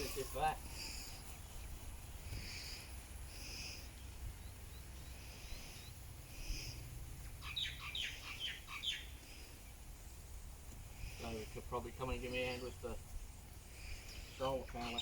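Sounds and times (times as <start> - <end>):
birds calling: 0.0 - 9.8, 10.4 - 15.0.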